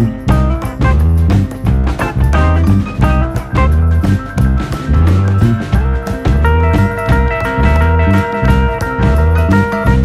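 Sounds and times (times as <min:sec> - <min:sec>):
instrumental music with drums: 0:00.0 - 0:10.0.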